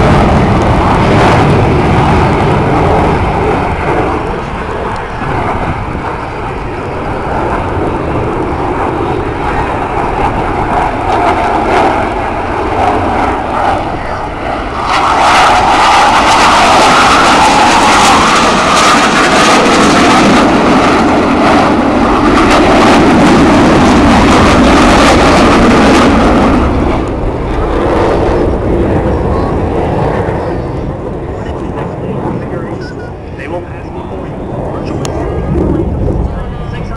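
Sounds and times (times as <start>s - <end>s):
jet roaring past: 0.0s - 36.9s.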